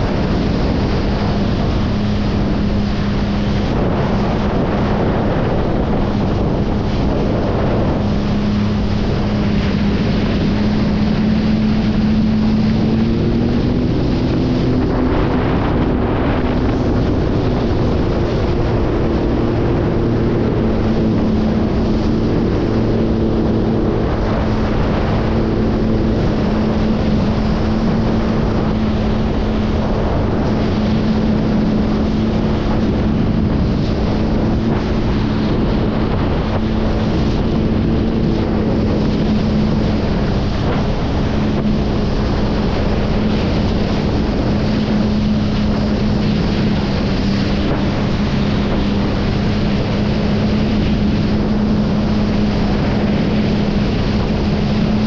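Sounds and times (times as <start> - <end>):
water against hull: 0.0 - 55.0
watercraft engine droning: 0.0 - 55.0
wind on microphone: 0.0 - 55.0.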